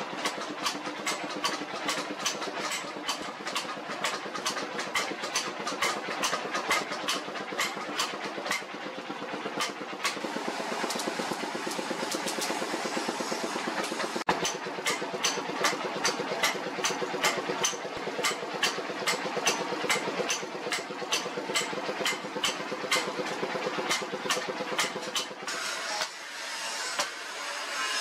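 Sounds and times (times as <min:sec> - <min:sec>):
steady machine drone: 0:00.0 - 0:26.8.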